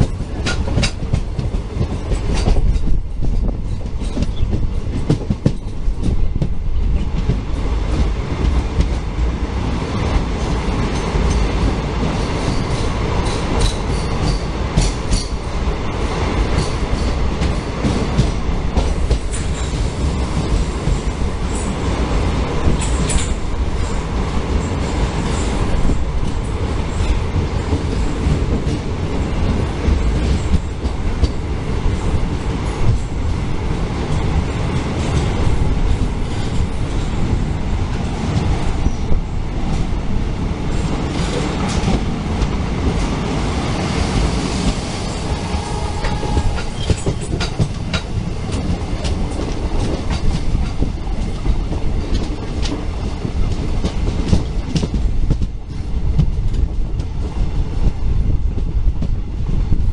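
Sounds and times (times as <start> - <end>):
train rumbling in a tunnel: 0.0 - 59.9.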